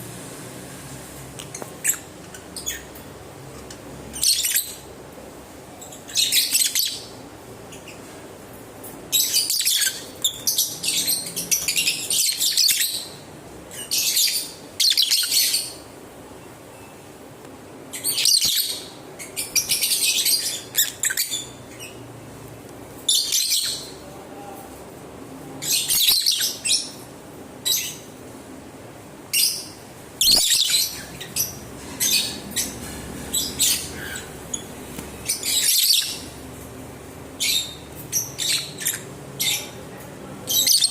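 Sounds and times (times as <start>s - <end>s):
lovebirds chirping: 1.4s - 5.0s, 5.6s - 8.2s, 9.1s - 17.2s, 17.8s - 24.4s, 25.6s - 28.2s, 29.3s - 40.9s.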